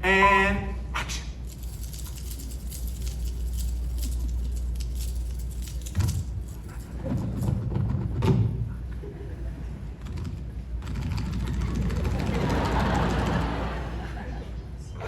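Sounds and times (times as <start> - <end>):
metallic jangling: 1.2 - 13.6.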